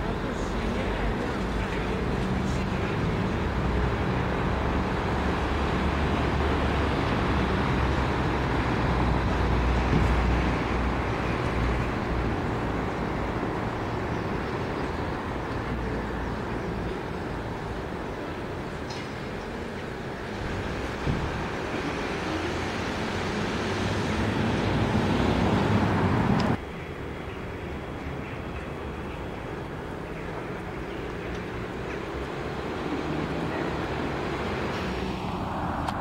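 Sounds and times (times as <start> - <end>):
road traffic rumbling: 0.0 - 36.0.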